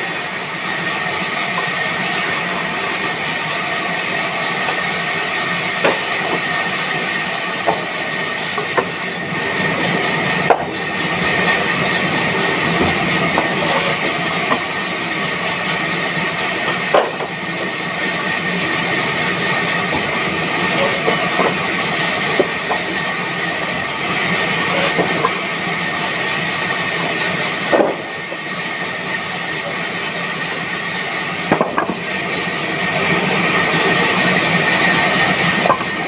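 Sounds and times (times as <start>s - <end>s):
woodworking machine hissing and whining: 0.0s - 36.0s.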